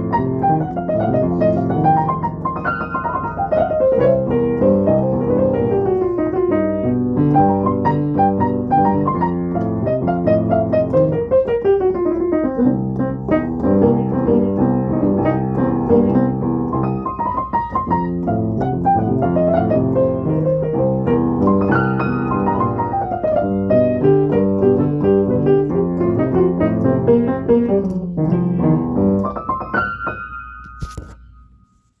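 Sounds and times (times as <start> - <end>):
piano chords and fast runs: 0.0 - 30.7.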